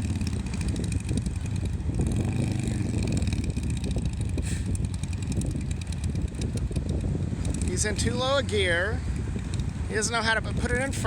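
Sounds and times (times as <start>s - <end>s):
diesel truck engine under throttle: 0.0s - 10.0s.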